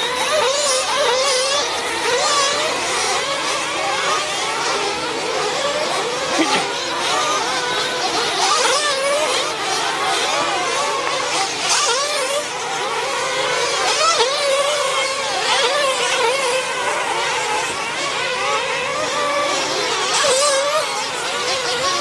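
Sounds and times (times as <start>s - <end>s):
small rc truck engines whining: 0.0s - 22.0s.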